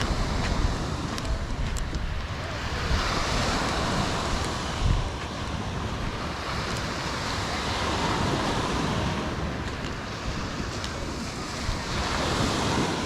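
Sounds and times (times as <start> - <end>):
ocean surf washing onto beach: 0.0 - 13.0
wind gusting on microphone: 0.0 - 13.0.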